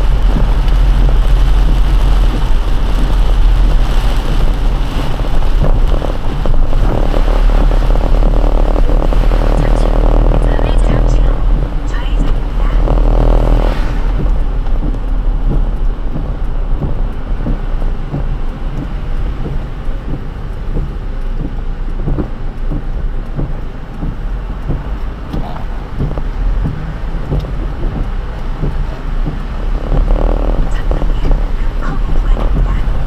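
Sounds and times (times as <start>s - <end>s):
car tyres and engine rumble: 0.0s - 33.0s
rain taps: 0.0s - 33.0s.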